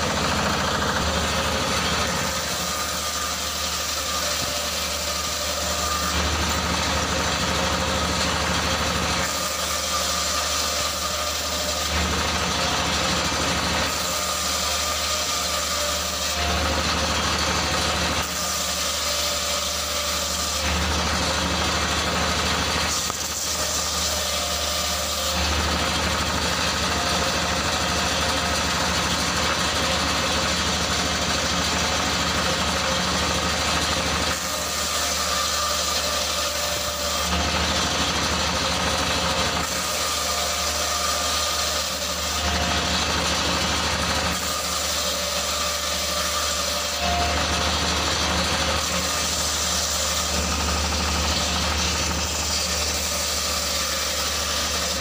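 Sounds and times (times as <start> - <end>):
circular saw cutting wood: 0.0 - 55.0
stationary engine running: 0.0 - 55.0.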